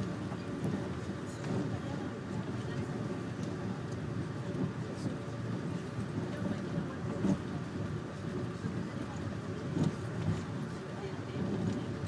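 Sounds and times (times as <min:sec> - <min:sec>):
moving train rumble: 0:00.0 - 0:12.0.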